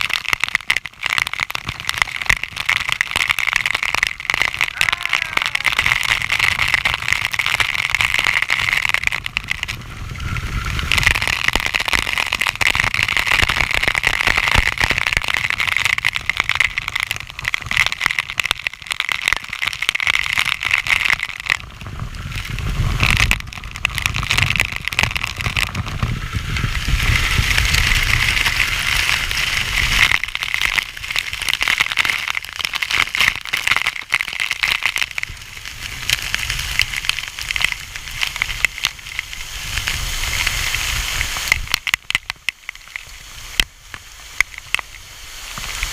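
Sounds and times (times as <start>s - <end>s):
waterfall rushing and splashing: 0.1s - 45.9s.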